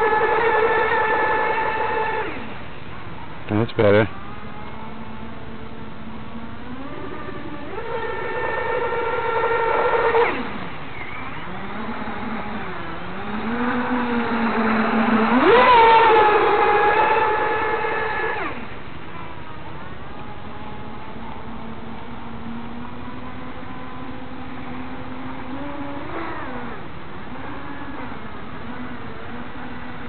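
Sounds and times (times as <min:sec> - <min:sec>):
model powerboat whining: 0:00.0 - 0:30.0.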